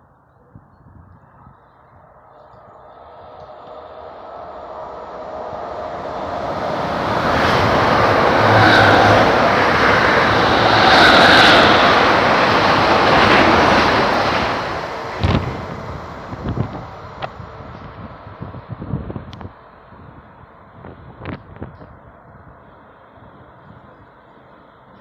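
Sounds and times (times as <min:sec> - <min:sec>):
train passing through station: 0:00.0 - 0:25.0.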